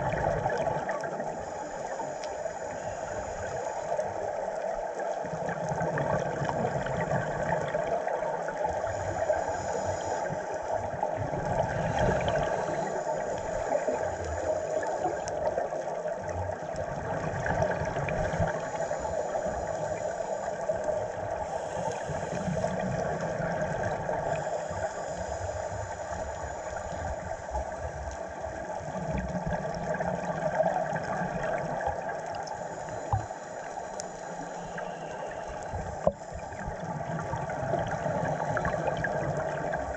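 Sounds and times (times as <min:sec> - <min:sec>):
muffled underwater wash: 0:00.0 - 0:39.9.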